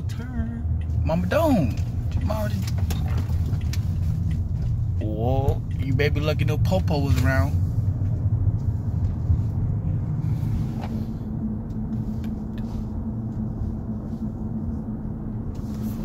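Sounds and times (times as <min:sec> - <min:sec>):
engine and road rumble: 0:00.0 - 0:16.0
low hum: 0:00.0 - 0:16.0.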